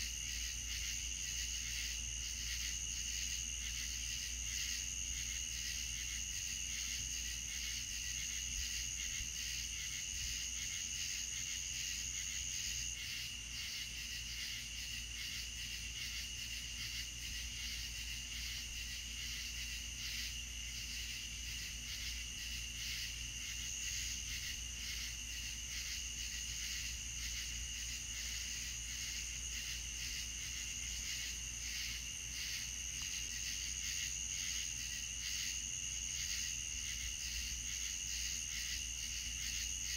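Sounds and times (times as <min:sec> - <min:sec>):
crickets trilling: 0:00.0 - 0:39.9
insects pulsing chirp: 0:00.0 - 0:39.9.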